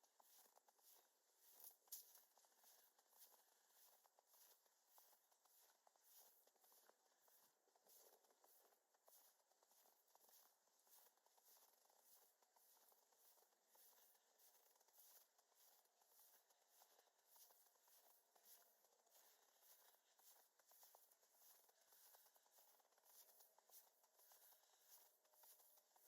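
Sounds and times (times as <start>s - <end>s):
footsteps crunching in snow: 0.1s - 26.0s.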